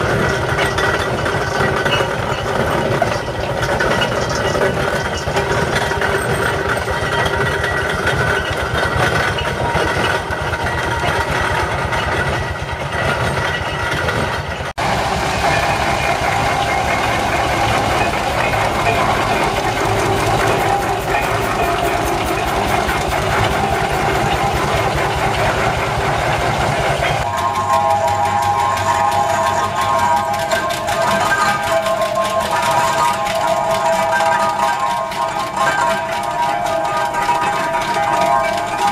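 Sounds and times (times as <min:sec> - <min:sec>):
steam road roller running: 0:00.0 - 0:38.9
traction engine running: 0:00.0 - 0:38.9.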